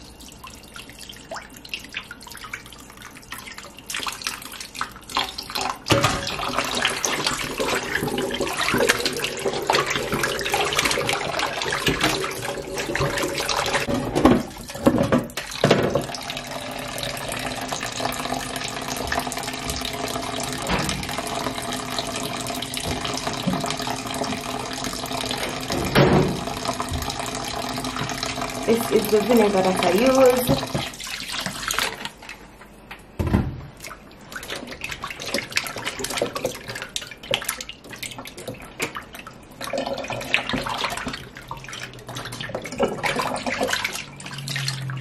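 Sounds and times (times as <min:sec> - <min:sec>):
hands rinsing chicken: 0:01.2 - 0:32.5, 0:33.8 - 0:45.0.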